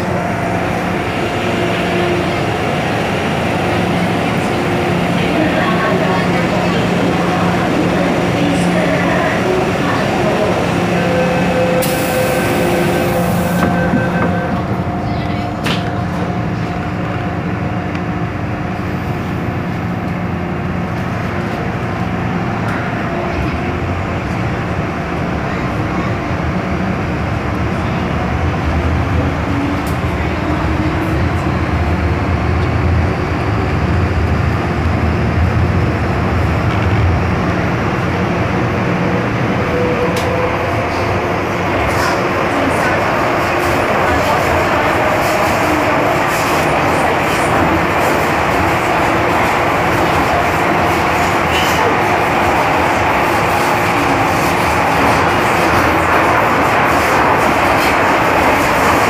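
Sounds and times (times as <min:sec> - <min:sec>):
subway train wheels rumbling: 0:00.0 - 0:59.0.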